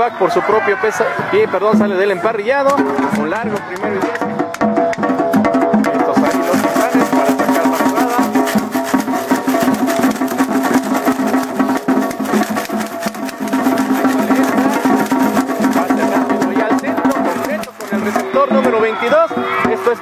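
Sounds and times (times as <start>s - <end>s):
fast percussion: 1.2s - 20.0s.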